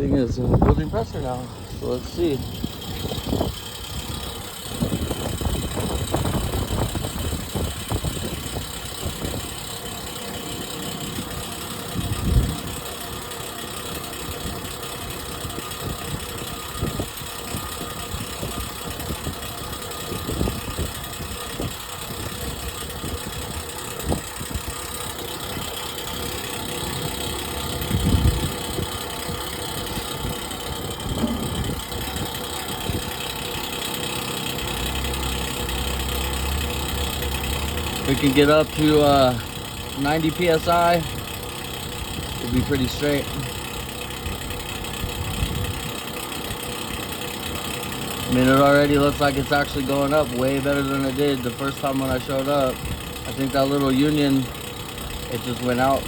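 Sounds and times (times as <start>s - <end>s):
air compressor building pressure: 0.0s - 56.0s
truck engine idling: 0.0s - 56.0s.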